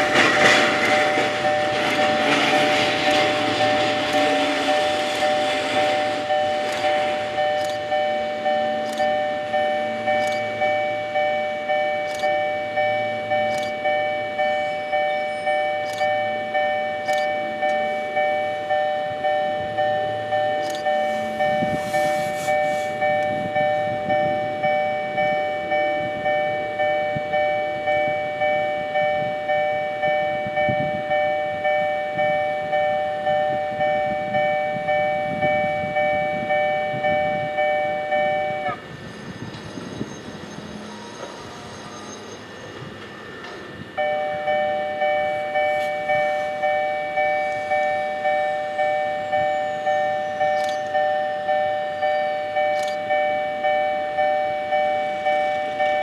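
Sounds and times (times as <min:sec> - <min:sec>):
level crossing bell ringing: 0:00.0 - 0:38.8, 0:43.8 - 0:56.0.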